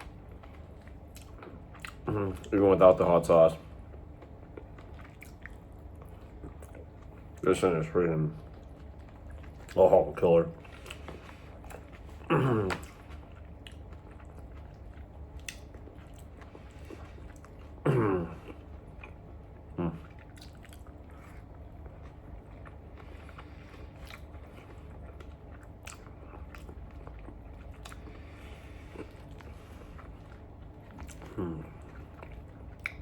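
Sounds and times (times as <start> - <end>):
person chewing food: 0.0 - 7.4, 8.4 - 33.0.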